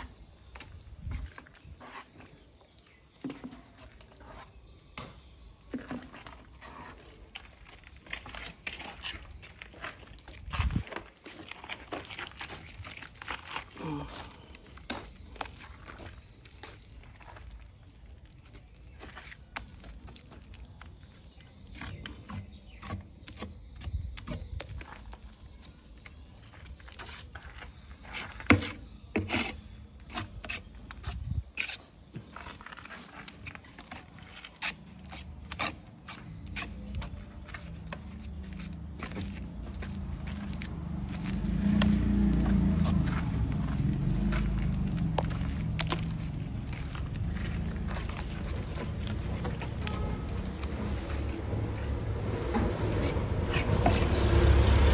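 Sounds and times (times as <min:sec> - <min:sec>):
trowel scraping wet mortar: 0:00.0 - 0:54.9.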